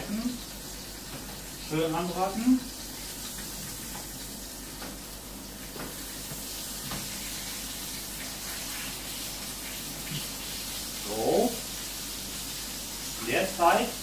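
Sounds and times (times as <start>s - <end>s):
patties sizzling in a pan: 0.0s - 14.0s.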